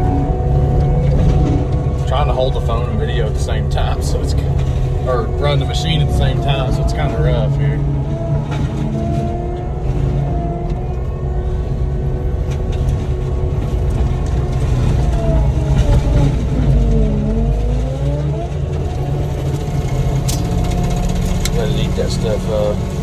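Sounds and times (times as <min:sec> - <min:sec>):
diesel engine and mulcher running: 0:00.0 - 0:23.0.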